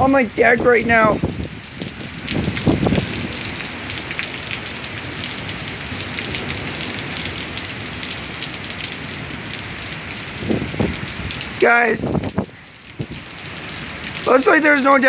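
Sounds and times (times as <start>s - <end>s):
low thunder rumble: 0.0s - 13.3s
rain patter: 0.0s - 15.0s.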